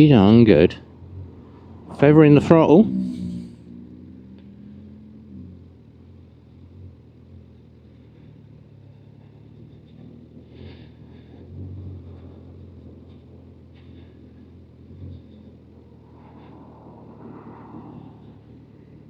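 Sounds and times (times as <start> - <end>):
motorcycle engine low drone: 0.0 - 19.0.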